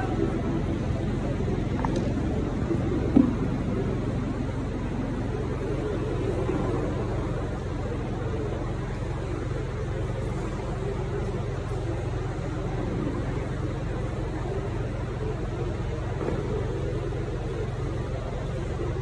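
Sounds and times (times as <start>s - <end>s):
murmur of voices: 0.0s - 19.0s
steady low hum: 0.0s - 19.0s.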